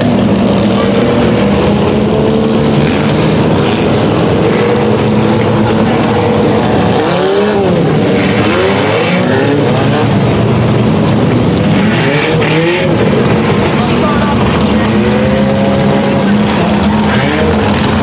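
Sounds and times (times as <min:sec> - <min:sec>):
race car engines running: 0:00.0 - 0:18.0
race cars passing by: 0:00.0 - 0:18.0.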